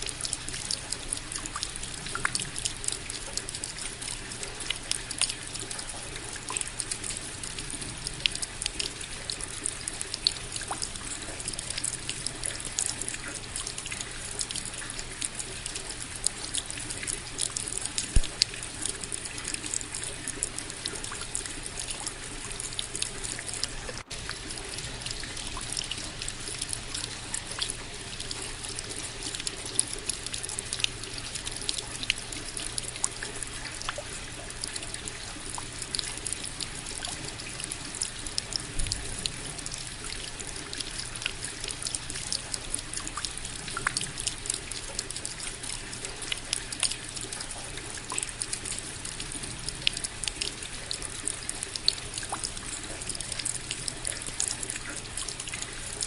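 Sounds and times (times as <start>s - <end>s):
steady rain with ticking drops: 0.0s - 56.0s.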